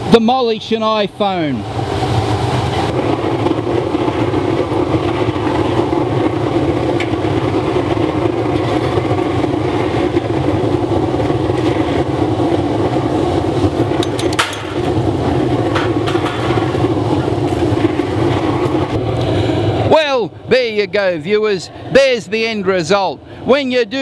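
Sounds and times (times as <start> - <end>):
oil burner rushing: 0.0 - 23.9.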